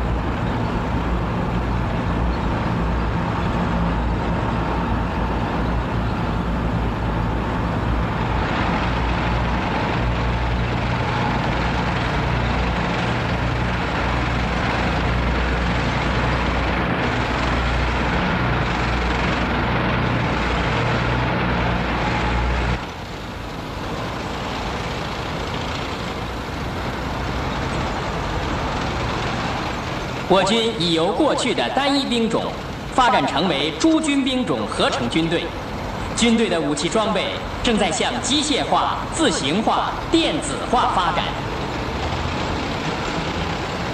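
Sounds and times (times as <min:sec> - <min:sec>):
heavy military vehicles driving past: 0:00.0 - 0:43.9.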